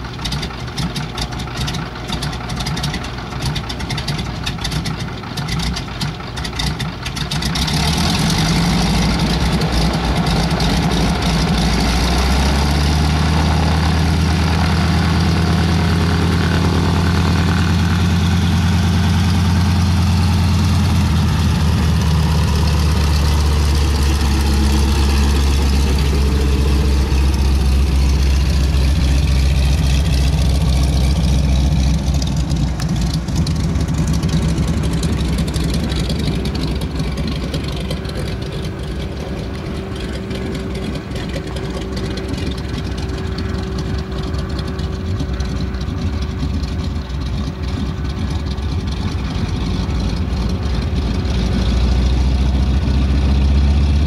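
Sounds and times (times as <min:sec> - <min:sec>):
radial aircraft engine droning: 0:00.0 - 0:54.0.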